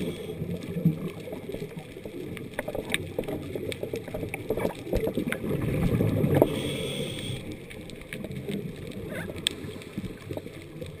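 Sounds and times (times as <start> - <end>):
underwater rumble and bubbling: 0.0 - 11.0.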